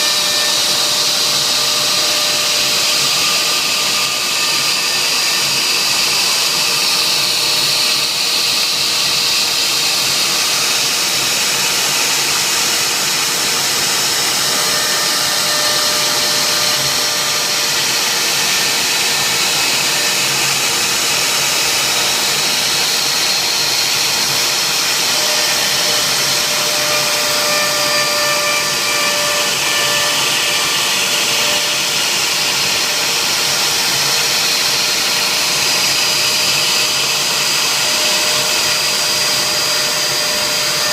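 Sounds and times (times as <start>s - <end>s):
router spindle hiss and whine: 0.0s - 40.9s.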